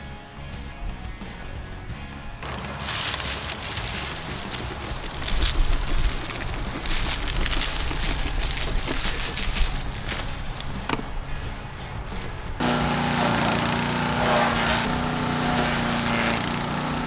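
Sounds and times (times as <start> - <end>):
wood chips pattering onto leaves: 2.4 - 17.0.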